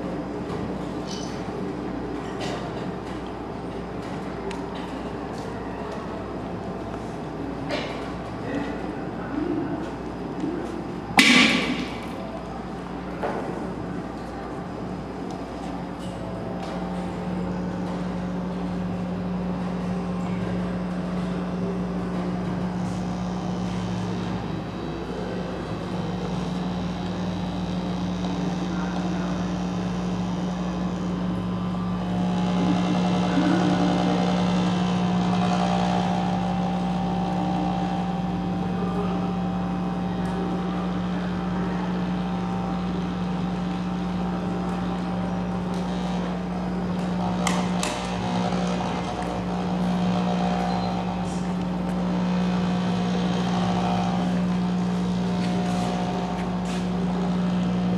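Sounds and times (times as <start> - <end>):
machine drone with low hum: 0.0 - 57.9.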